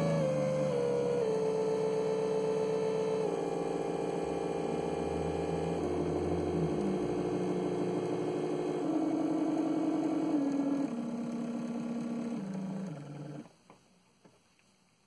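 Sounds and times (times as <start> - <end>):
cooling fan motor whining: 0.0 - 13.5.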